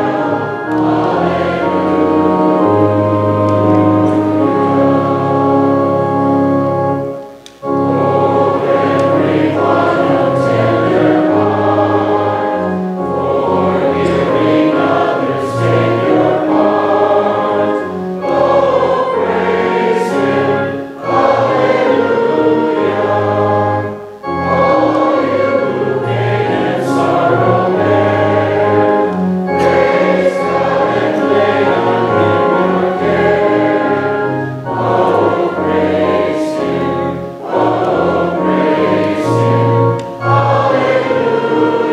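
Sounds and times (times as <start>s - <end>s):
group singing a hymn: 0.0s - 41.9s.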